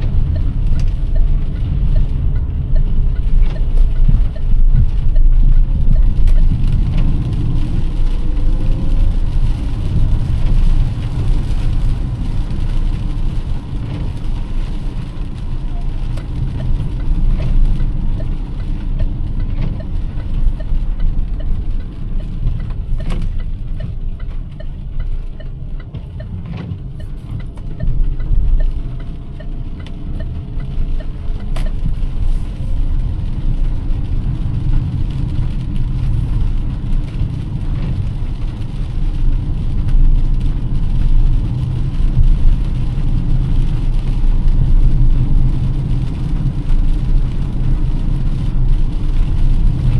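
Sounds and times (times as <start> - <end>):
light regular ticking: 0.0 - 44.1
car engine and road noise: 0.0 - 49.9.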